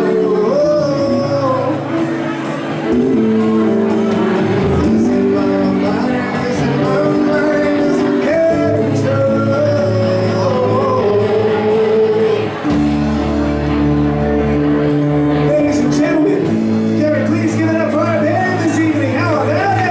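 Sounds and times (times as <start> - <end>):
lead vocal singing: 0.0 - 19.9
pop-rock band playing: 0.0 - 19.9.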